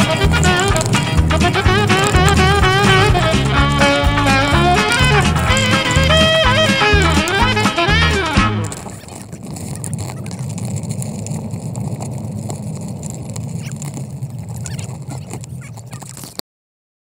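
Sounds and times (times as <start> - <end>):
pram wheels rolling on gravel: 0.0 - 16.4.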